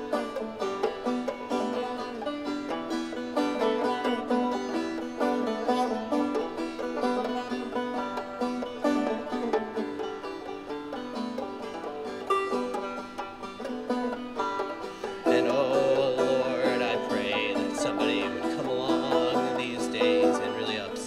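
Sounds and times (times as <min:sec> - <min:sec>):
banjo picking folk music: 0:00.0 - 0:21.0.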